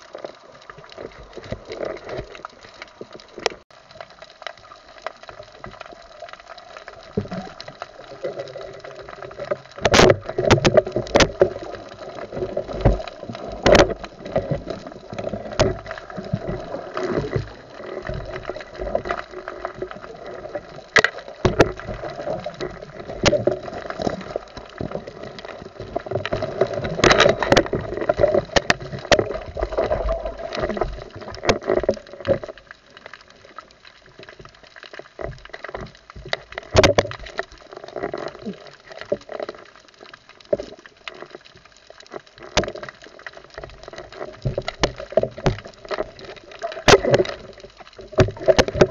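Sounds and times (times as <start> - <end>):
muffled water sloshing underwater: 0.0 - 48.9.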